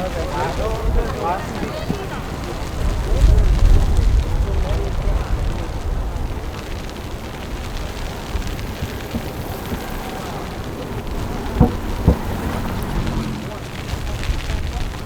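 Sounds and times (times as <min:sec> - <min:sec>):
faint voices: 0:00.0 - 0:15.0
low street rumble: 0:00.0 - 0:15.0.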